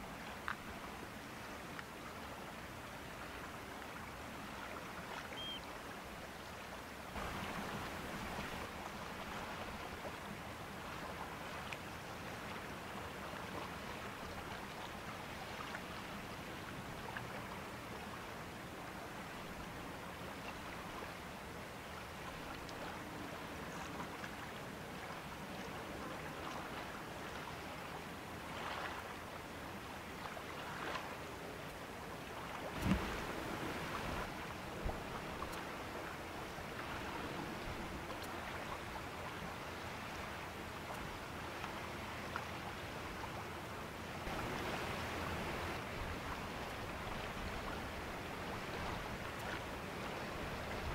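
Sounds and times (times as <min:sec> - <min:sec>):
river water flowing: 0:00.0 - 0:50.9
wind: 0:00.0 - 0:50.9.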